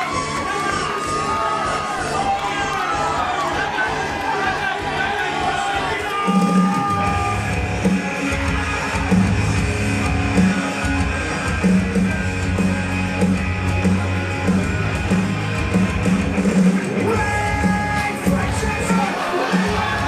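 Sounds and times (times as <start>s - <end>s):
guitar rock music: 0.0s - 20.0s.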